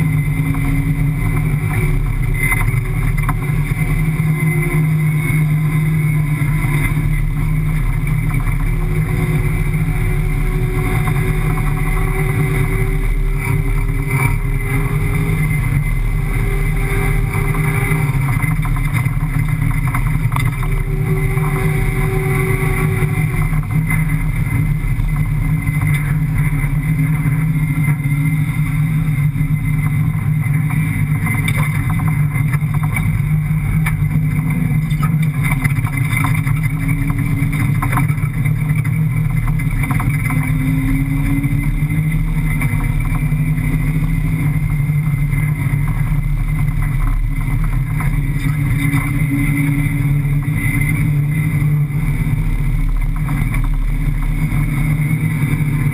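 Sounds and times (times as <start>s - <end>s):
car engine running hard: 0.0s - 55.9s.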